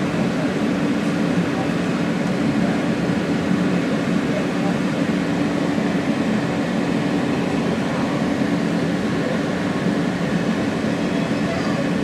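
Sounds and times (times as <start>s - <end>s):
subway car rumble and hum: 0.0s - 12.0s.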